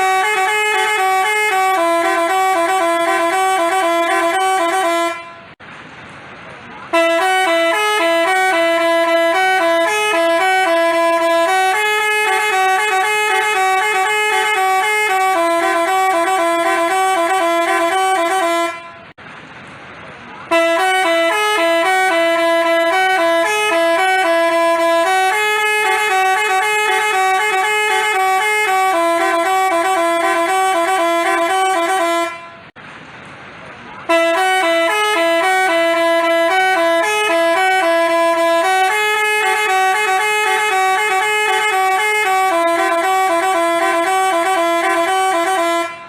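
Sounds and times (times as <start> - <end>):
multi-tone bus horn tune: 0.0 - 5.6, 6.8 - 19.2, 20.4 - 32.8, 34.0 - 46.0.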